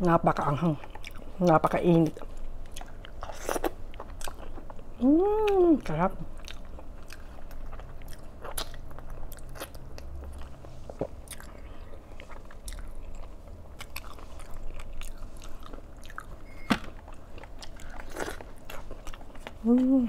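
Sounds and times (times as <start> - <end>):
person chewing: 0.4 - 20.0.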